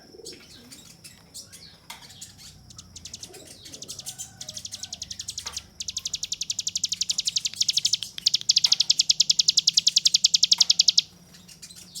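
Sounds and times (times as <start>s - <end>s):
bird singing rapid high trills: 0.4s - 12.0s.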